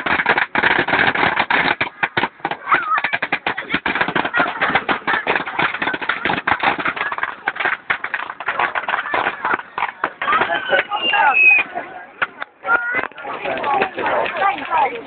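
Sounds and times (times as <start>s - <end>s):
bonfire crackling and popping: 0.0s - 15.0s
crowd chatter: 0.0s - 15.0s.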